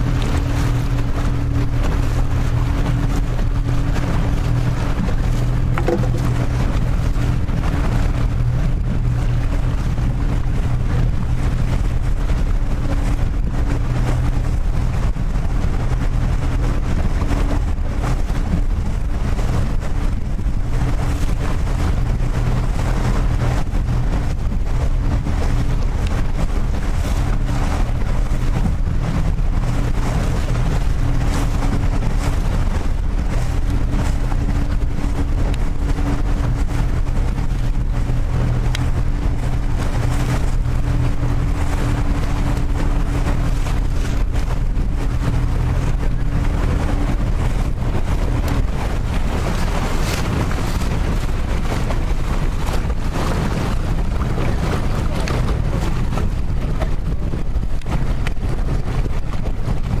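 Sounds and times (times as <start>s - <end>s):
outboard motor idling: 0.0s - 60.0s
wind rumble on microphone: 0.0s - 60.0s.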